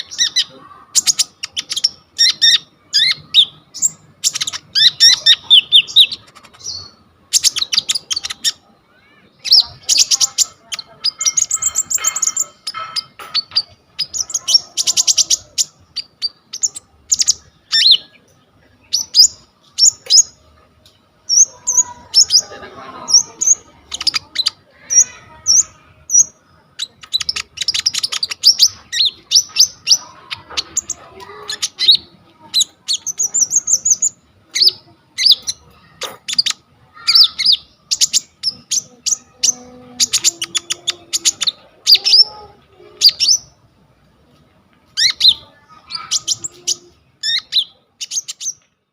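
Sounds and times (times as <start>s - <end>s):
songbird singing chirps and trills: 0.0s - 48.9s.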